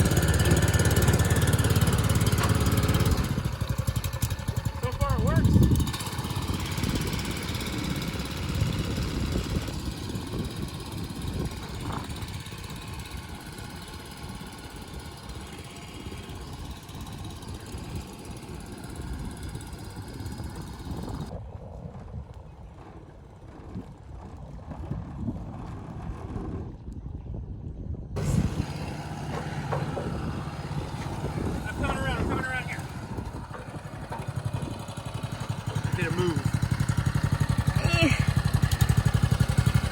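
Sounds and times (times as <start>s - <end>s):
boat outboard engine running: 0.0s - 27.2s, 28.1s - 39.9s.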